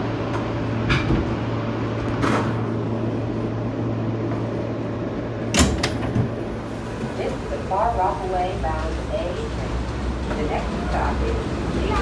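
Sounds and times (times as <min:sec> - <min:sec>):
subway car hum and rumble: 0:00.0 - 0:12.0.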